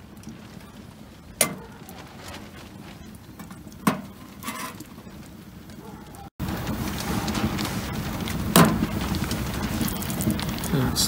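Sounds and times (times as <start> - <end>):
stove fire crackling: 0.0 - 11.0.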